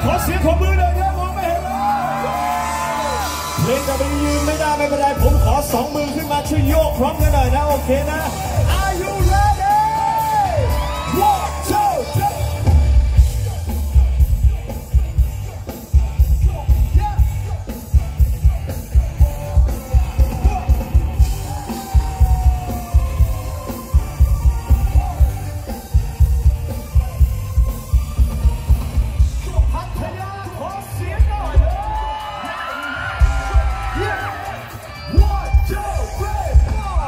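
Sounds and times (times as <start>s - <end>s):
loud concert music with heavy bass: 0.0s - 37.0s.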